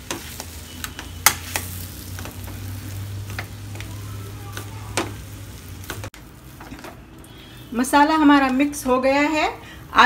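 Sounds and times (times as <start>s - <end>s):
light sizzling: 0.0s - 10.0s.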